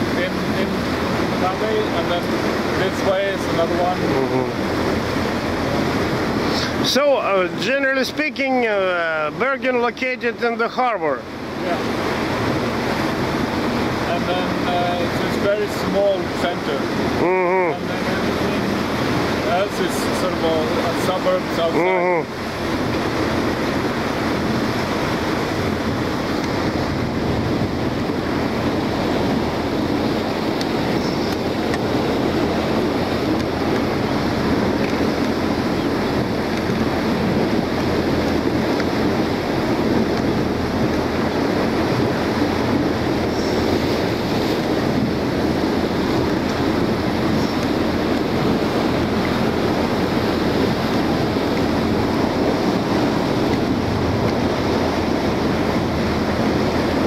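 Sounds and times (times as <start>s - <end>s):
wind buffeting microphone: 0.0s - 10.4s, 11.2s - 57.0s
boat engine running: 0.0s - 57.0s
water rushing along hull: 0.0s - 57.0s.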